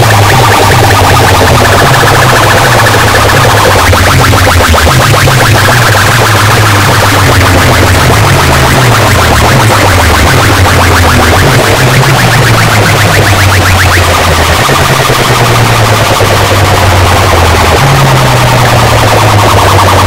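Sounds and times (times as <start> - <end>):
loud electronic dance music: 0.0 - 20.0.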